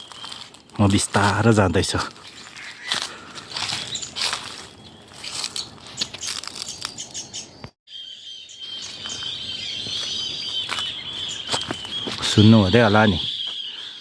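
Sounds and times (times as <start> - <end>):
forest birds chirping: 0.0 - 14.0.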